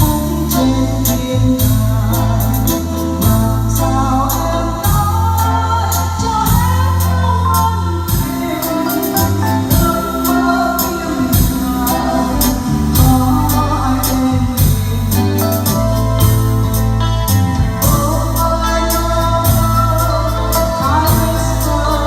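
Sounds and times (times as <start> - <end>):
held bass notes: 0.0 - 22.0
keyboard melody: 0.0 - 22.0.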